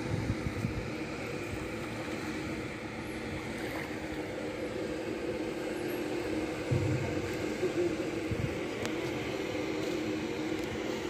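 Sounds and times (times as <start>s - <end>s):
machinery drone: 0.0s - 11.0s.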